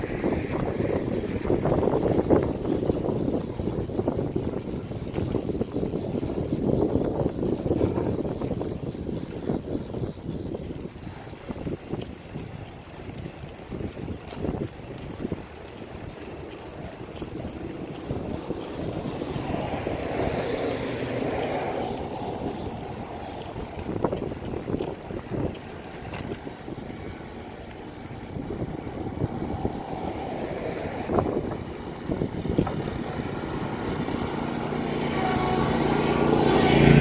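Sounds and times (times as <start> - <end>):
vehicle passing: 0.0 - 4.2, 10.9 - 37.0
wind buffeting microphone: 0.0 - 37.0.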